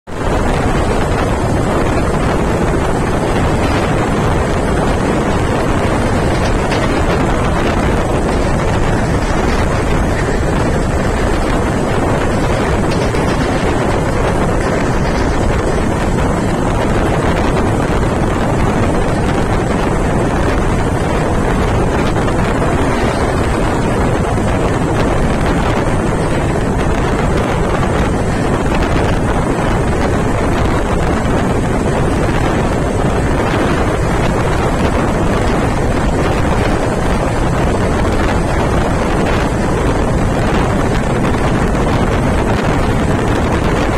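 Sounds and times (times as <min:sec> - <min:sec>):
train running on track: 0:00.1 - 0:43.9
wind buffeting microphone: 0:00.1 - 0:43.9.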